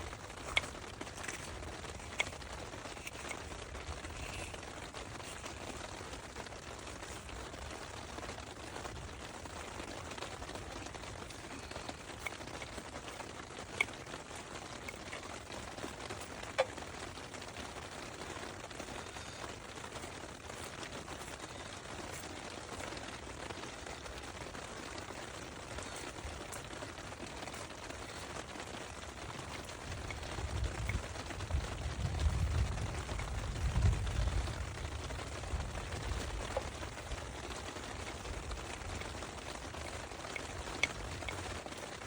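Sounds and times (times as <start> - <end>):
rain hiss: 0.0 - 42.0.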